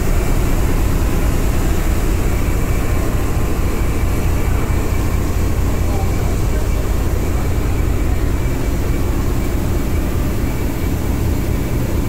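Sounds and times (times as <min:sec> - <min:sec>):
ferry engine rumble: 0:00.0 - 0:12.0
wind and water rushing: 0:00.0 - 0:12.0.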